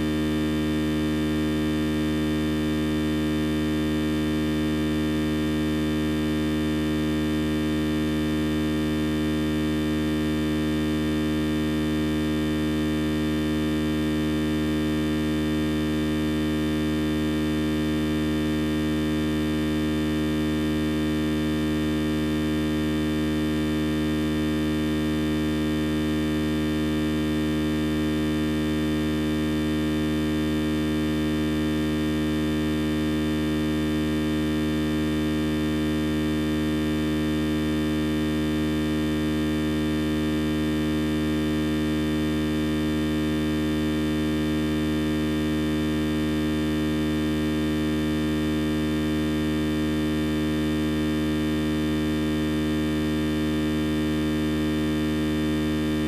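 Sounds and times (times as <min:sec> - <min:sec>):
steady hum with overtones: 0:00.0 - 0:56.0.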